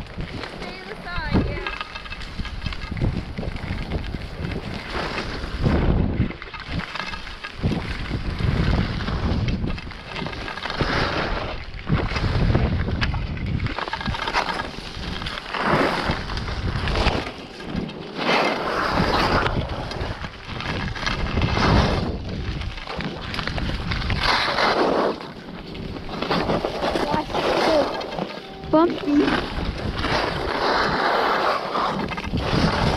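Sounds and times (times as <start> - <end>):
skis scraping packed snow: 0.0 - 32.9
wind on microphone: 0.0 - 32.9.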